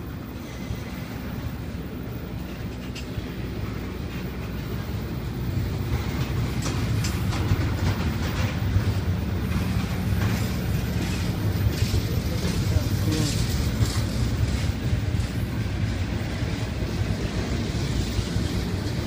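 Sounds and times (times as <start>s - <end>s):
freight train wheels rumbling: 0.0s - 19.0s
train clicks and clanks: 0.0s - 19.0s.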